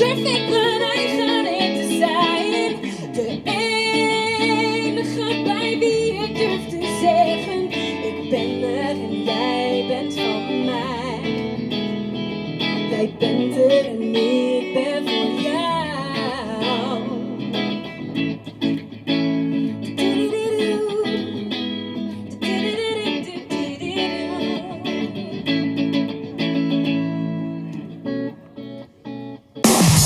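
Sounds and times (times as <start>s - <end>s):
live band with guitar: 0.0s - 30.0s.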